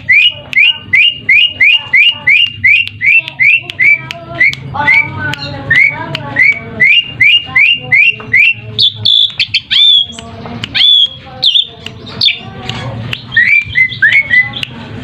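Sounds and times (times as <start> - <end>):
starling whistling and warbling: 0.0 - 12.4, 13.2 - 14.7.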